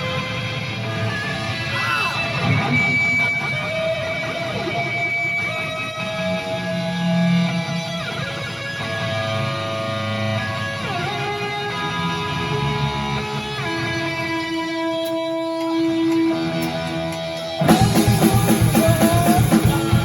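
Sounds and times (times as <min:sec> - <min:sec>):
electric guitar sliding notes: 0:00.0 - 0:20.0.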